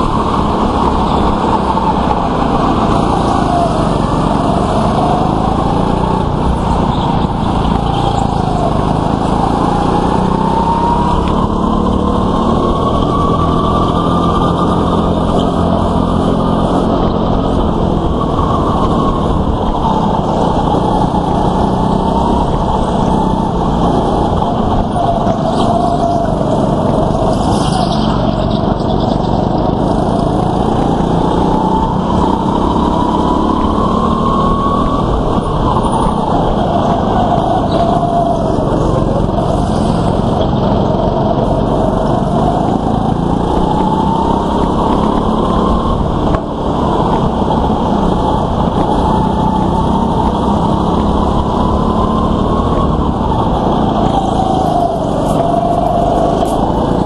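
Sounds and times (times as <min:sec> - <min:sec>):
go-kart engine running hard: 0:00.0 - 0:57.0
other karts passing: 0:00.0 - 0:57.0.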